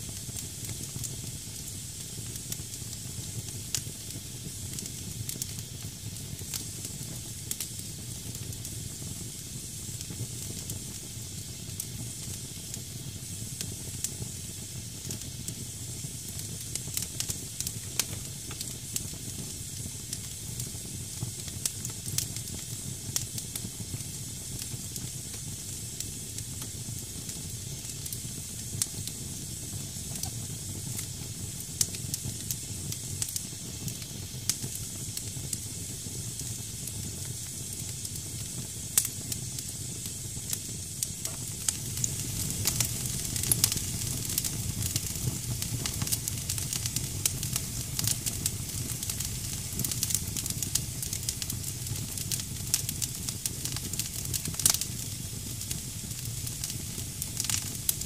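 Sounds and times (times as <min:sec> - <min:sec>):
fire crackles and pops: 0:00.0 - 0:58.0
hiss of steaming wood: 0:00.0 - 0:58.0
low rumble of flame: 0:00.0 - 0:58.0.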